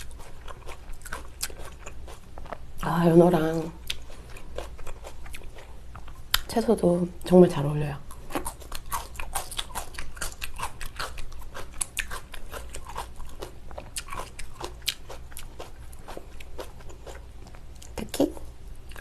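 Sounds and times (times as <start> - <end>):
chewing crunchy food: 0.0 - 6.5, 8.1 - 19.0.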